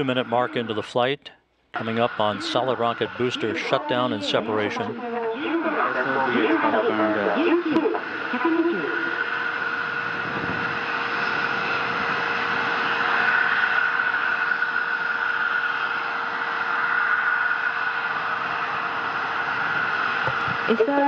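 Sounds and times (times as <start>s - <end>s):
distant rocket roar: 1.7s - 21.0s.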